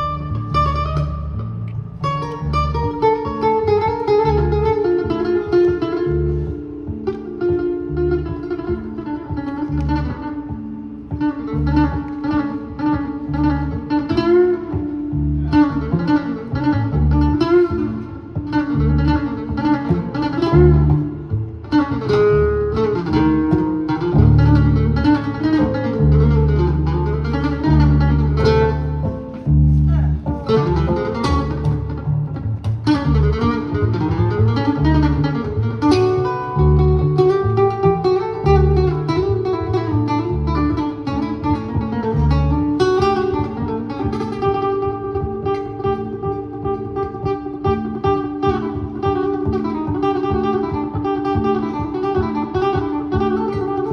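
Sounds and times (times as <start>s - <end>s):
double bass notes: 0.0s - 53.9s
plucked acoustic guitar: 0.0s - 53.9s.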